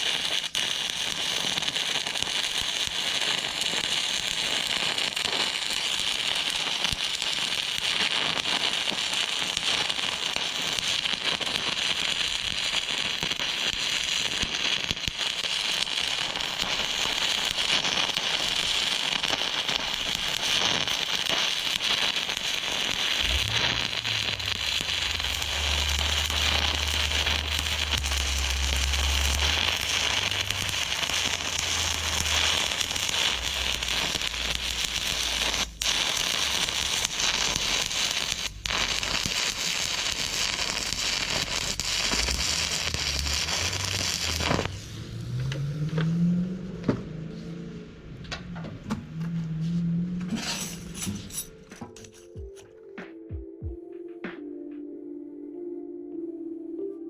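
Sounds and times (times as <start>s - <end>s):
welding arc crackling: 0.0s - 46.0s.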